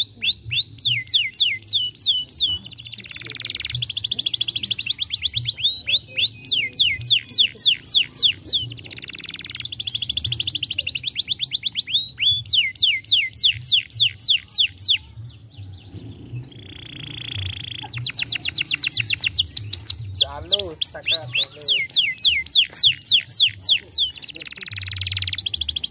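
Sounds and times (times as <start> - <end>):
canary singing: 0.0 - 25.9.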